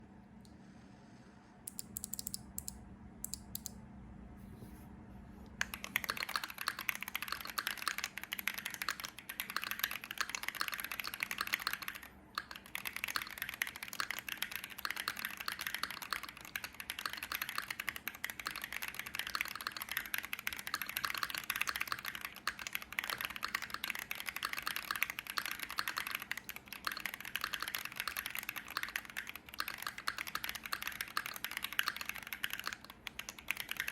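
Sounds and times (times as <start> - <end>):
typing on mechanical keyboard: 1.7 - 3.7, 5.6 - 33.9.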